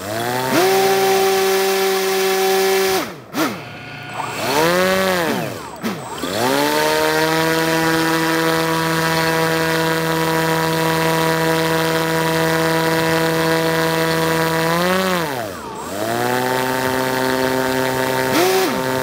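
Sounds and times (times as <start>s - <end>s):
air propeller motor humming: 0.0s - 19.0s.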